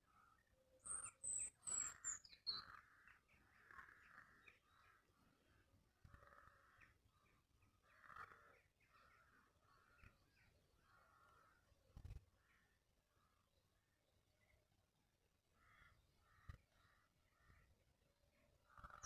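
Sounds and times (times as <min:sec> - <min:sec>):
birds calling faintly: 0:00.0 - 0:19.0.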